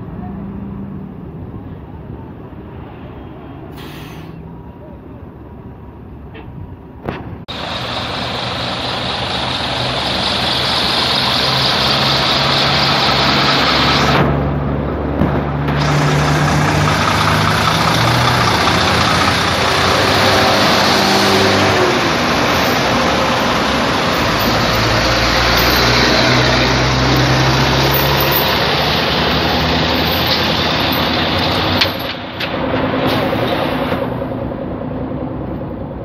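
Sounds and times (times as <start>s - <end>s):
heavy truck engines running: 0.0s - 36.0s.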